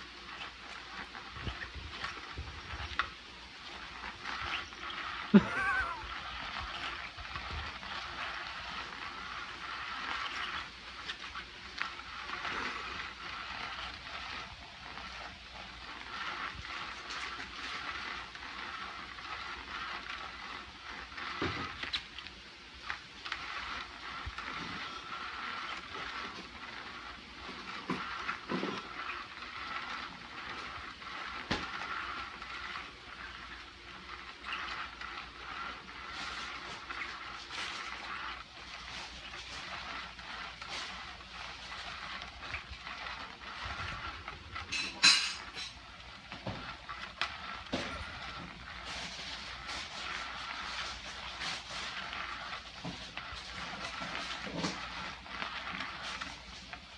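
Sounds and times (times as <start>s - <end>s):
cat toy whirring and rustling: 0.0s - 56.9s.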